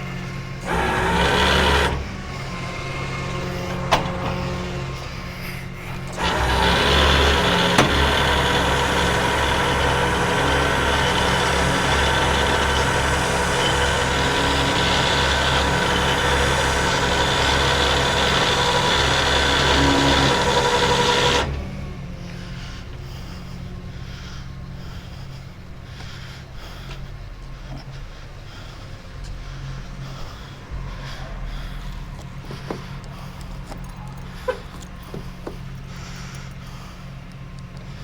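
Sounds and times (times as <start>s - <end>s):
tow truck hydraulics and engine: 0.0s - 38.0s.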